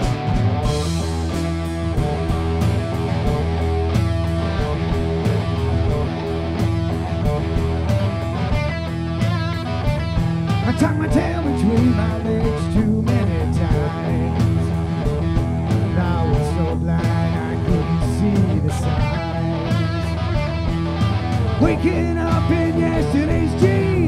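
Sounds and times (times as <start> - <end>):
bass guitar: 0.0 - 24.0
drum kit: 0.0 - 24.0
electric guitar: 0.0 - 24.0.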